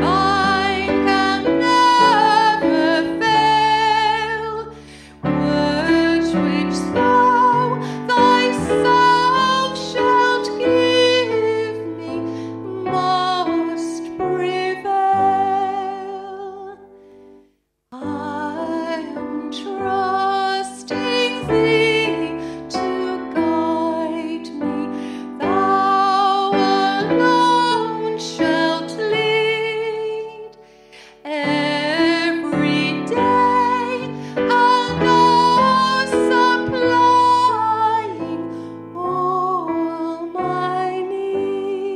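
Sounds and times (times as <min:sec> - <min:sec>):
piano accompaniment: 0:00.0 - 0:16.9, 0:18.0 - 0:41.9
woman singing slow song: 0:00.0 - 0:16.9, 0:18.0 - 0:41.9.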